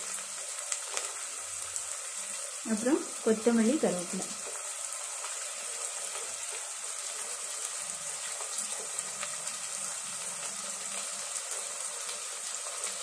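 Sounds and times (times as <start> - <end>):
oil crackles: 0.0 - 13.0
vegetables sizzling in hot oil: 0.0 - 13.0.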